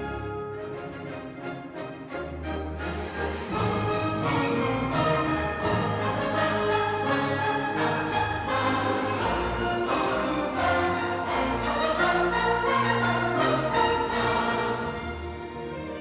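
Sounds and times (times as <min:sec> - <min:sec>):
orchestral music with bowed strings: 0:00.0 - 0:16.0.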